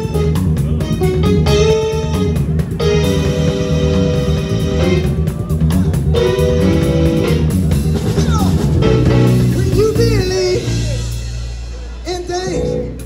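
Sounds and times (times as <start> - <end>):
drum beat: 0.0 - 12.7
guitar music: 0.0 - 13.0.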